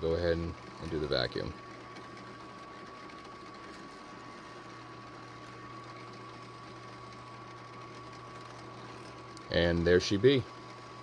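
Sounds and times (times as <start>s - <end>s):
drill press running: 0.0s - 11.0s.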